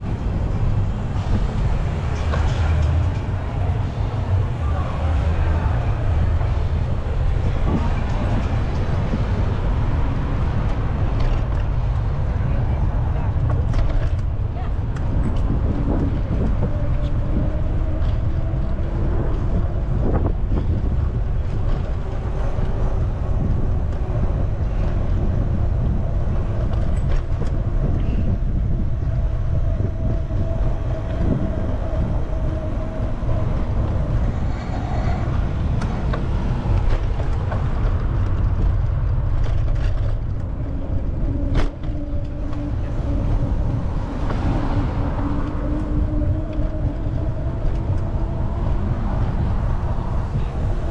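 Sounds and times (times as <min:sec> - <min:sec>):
wind noise on microphone: 0:00.0 - 0:50.9.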